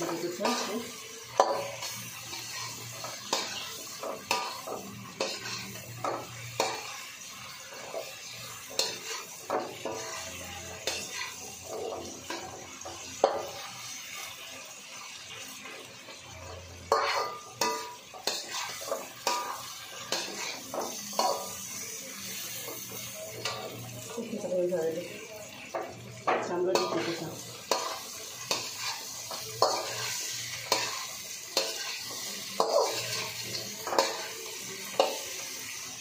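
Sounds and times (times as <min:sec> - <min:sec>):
frying sizzle: 0:00.0 - 0:36.0.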